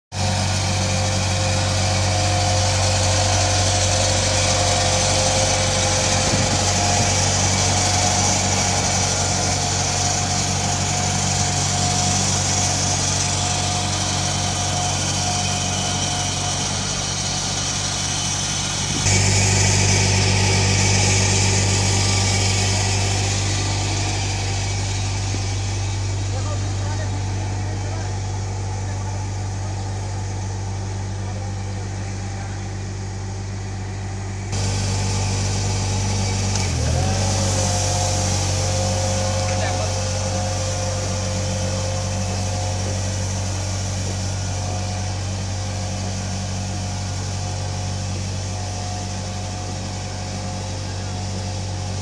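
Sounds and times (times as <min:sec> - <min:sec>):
street sweeper engine drone: 0:00.1 - 0:52.0.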